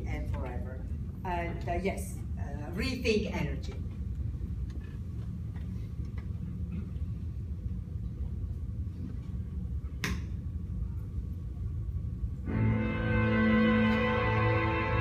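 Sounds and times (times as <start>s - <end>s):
low room rumble and hum: 0.0s - 15.0s.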